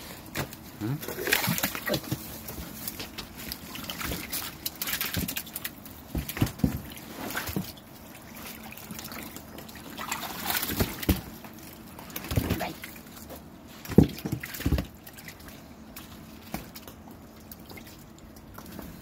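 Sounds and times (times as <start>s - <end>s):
fish flapping and splashing in water: 0.2s - 19.0s.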